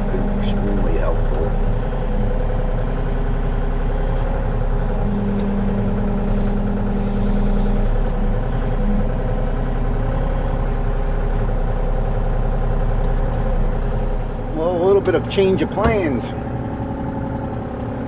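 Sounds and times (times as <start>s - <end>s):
earthmoving machine engine running: 0.0s - 18.0s.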